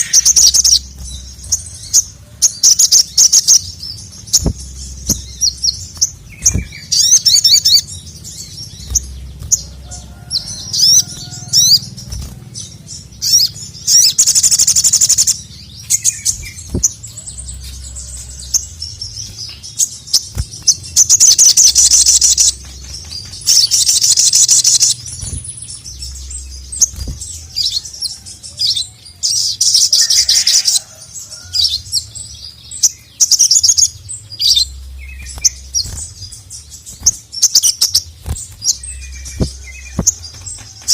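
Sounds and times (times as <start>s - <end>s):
low steady hum: 0.0s - 29.8s, 30.9s - 40.9s
songbird trilling: 0.0s - 40.9s.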